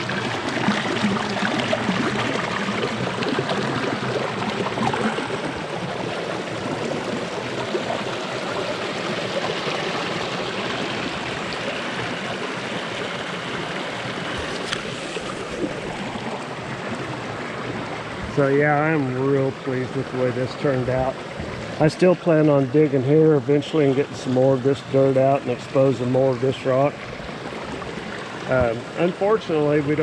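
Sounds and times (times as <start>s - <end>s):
stream pouring over waterfall: 0.0s - 30.0s.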